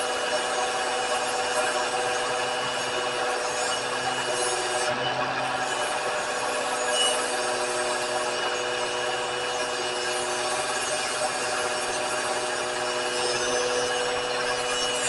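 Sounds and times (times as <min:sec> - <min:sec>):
power grinder grinding metal: 0:00.0 - 0:15.0.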